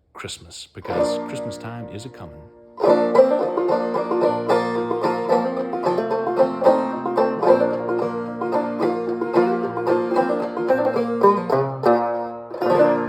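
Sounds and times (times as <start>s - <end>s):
banjo playing lively tune: 0.8s - 13.0s.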